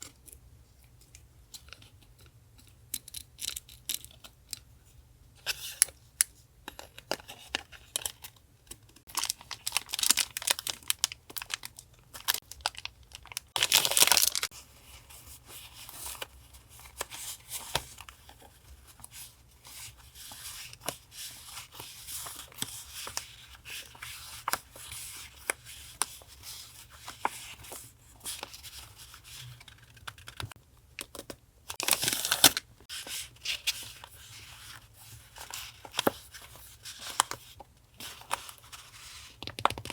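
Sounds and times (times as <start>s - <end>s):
paper and packaging rustling: 6.8s - 39.9s.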